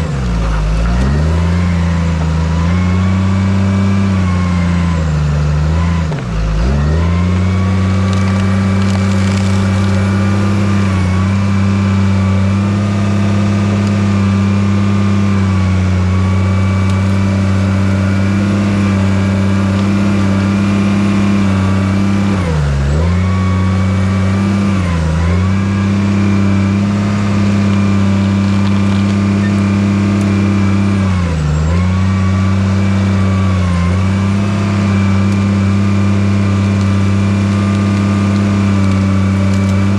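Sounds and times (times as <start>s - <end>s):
diesel engine under load: 0.0s - 39.9s
engine whine: 0.0s - 39.9s.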